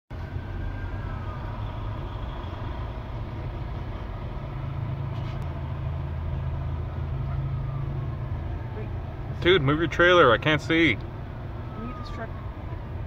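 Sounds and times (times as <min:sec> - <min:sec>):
engine and road rumble: 0:00.1 - 0:13.0
faint siren wail: 0:00.1 - 0:13.0.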